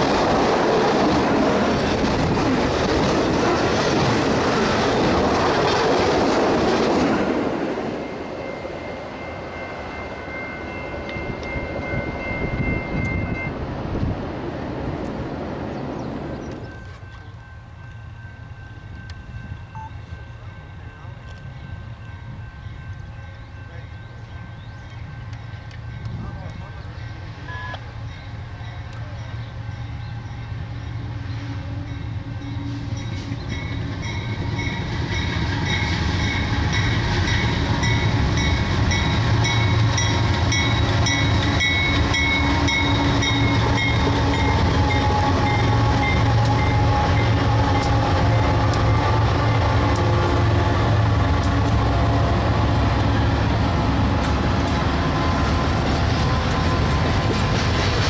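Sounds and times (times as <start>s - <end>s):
freight train passing: 0.0s - 58.0s
locomotive engine hum: 0.0s - 58.0s.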